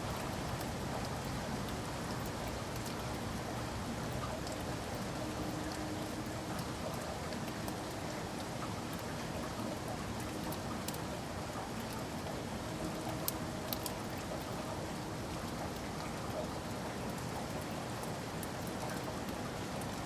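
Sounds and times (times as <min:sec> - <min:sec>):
heavy rain on a window: 0:00.0 - 0:20.0.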